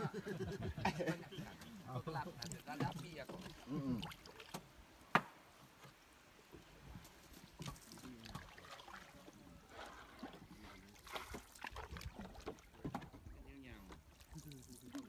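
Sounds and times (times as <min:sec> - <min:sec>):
paddle pulling through water: 0:00.0 - 0:15.0
water trickling and dripping: 0:01.5 - 0:15.0.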